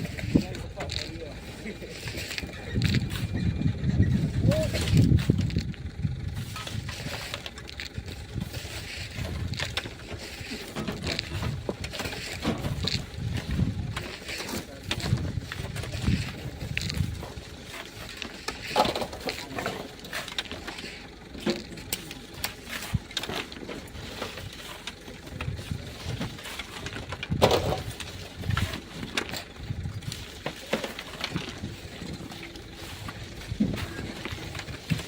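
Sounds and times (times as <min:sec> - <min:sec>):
hand tools digging sand and rock: 0:00.0 - 0:35.0.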